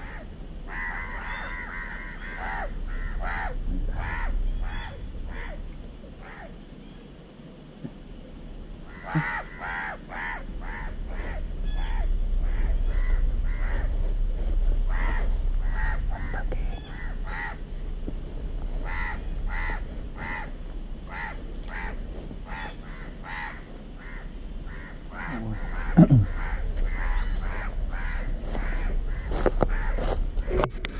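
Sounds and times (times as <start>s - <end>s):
crows cawing: 0.0s - 6.6s, 8.8s - 17.9s, 18.7s - 30.6s
low steady rumble: 0.0s - 30.9s.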